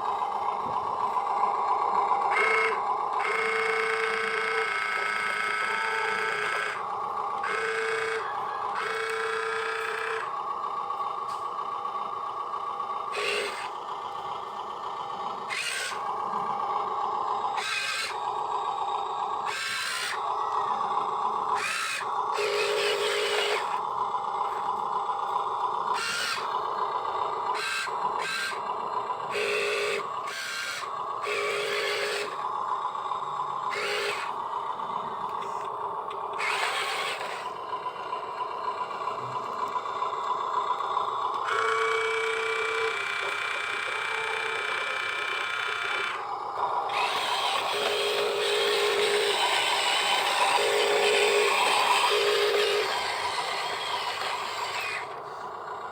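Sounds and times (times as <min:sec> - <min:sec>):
electric motors whining: 0:00.0 - 0:55.9.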